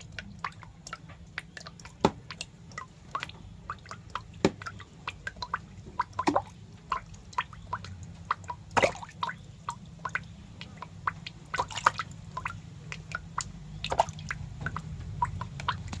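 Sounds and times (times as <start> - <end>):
low steady hum: 0.0 - 16.0
wet clicks and drips: 0.0 - 16.0.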